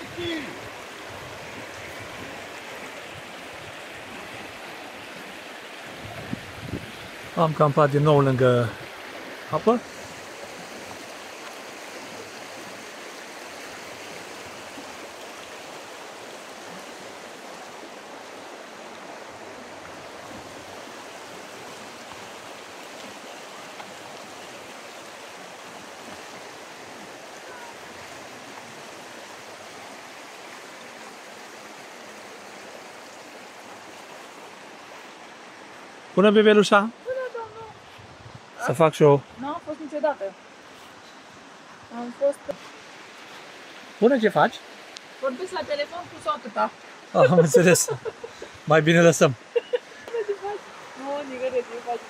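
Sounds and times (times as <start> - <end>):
river running over stones: 0.0 - 52.0.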